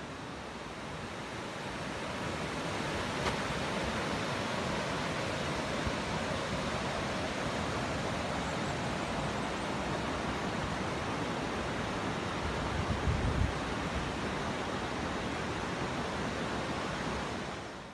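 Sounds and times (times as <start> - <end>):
stream water rushing over rocks: 0.0 - 17.9.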